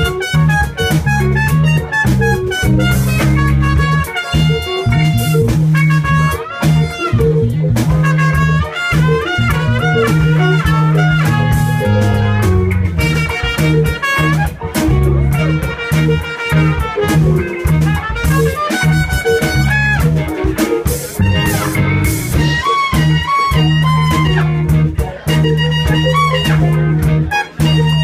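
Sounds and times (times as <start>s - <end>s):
drum kit: 0.0s - 28.0s
electric guitar: 0.0s - 28.0s
trumpet melody: 0.0s - 28.0s.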